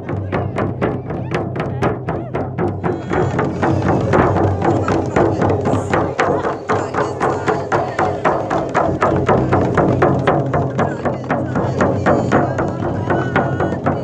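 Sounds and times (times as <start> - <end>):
frame drums beating: 0.0 - 14.0.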